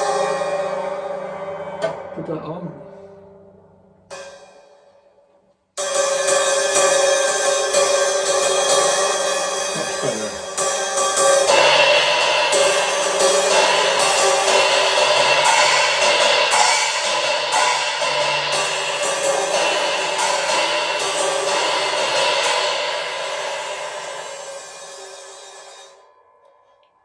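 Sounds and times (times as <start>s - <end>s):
sizzle cymbal struck: 0.0s - 26.8s.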